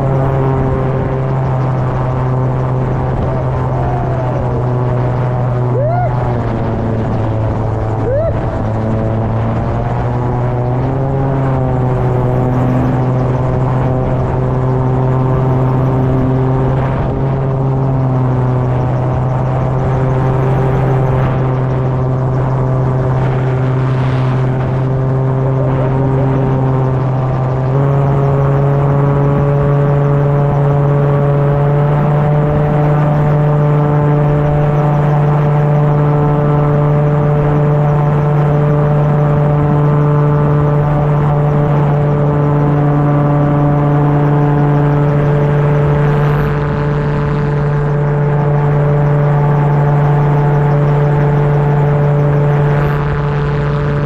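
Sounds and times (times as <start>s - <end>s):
engine and propeller droning: 0.0s - 54.0s
wind rush: 0.0s - 54.0s.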